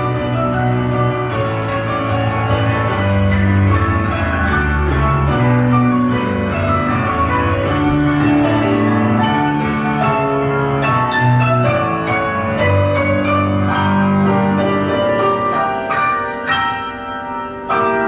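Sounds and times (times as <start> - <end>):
piano background music: 0.0 - 18.0.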